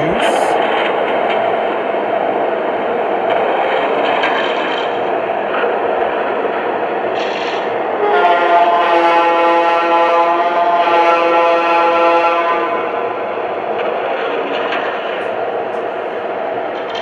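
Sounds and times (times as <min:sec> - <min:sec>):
model train running on track: 0:00.0 - 0:17.0.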